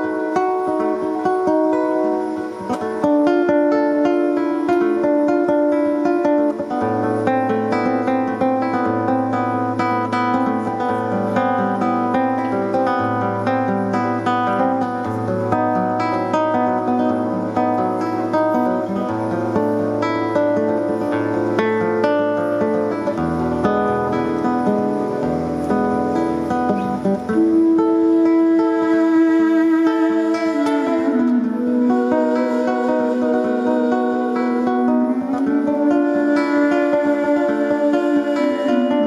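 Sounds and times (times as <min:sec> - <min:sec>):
plucked and strummed strings: 0:00.0 - 0:39.0.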